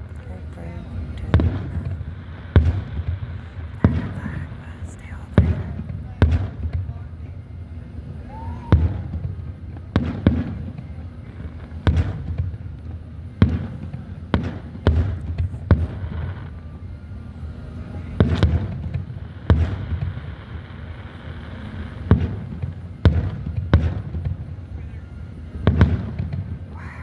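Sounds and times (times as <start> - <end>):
fireworks booming: 0.0 - 27.0.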